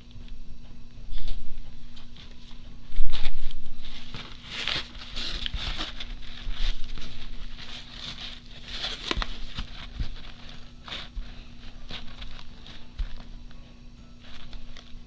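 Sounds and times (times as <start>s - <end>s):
faint steady hum: 0.0s - 15.0s
paper rustling: 1.1s - 15.0s.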